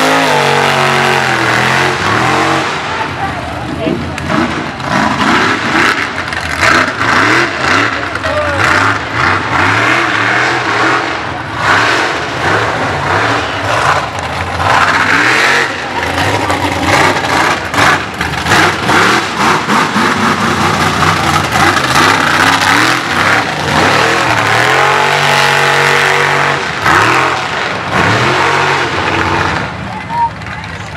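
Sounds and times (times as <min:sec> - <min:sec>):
race buggy engine revving: 0:00.0 - 0:30.9.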